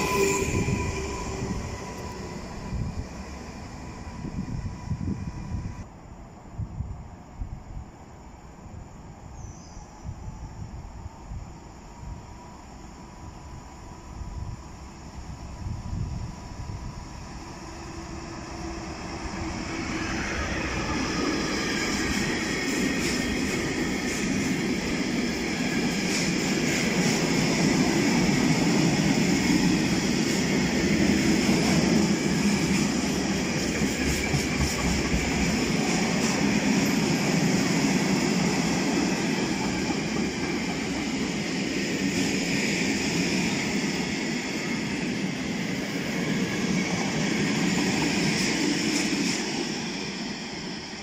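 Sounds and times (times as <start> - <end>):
freight train wheels rumbling: 0.0 - 5.9, 12.0 - 51.0.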